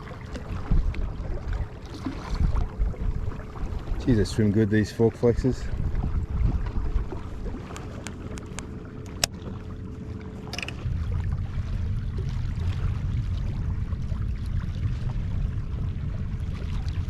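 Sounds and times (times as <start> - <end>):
water lapping against boat hull: 0.0 - 17.0
wind rumbling on microphone: 0.0 - 17.0.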